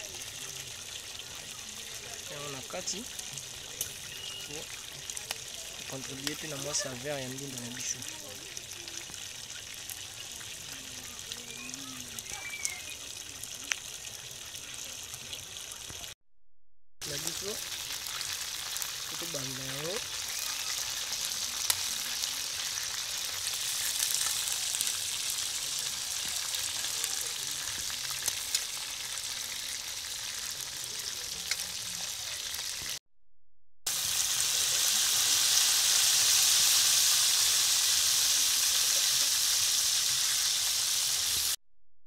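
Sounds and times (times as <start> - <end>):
chicken sizzling in hot oil: 0.0 - 16.2, 17.0 - 33.0, 33.9 - 41.6.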